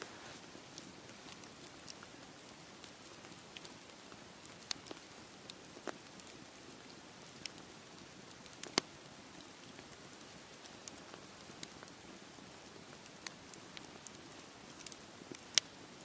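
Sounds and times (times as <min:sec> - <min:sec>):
campfire crackling: 0:00.0 - 0:16.0
fire popping: 0:00.0 - 0:16.0.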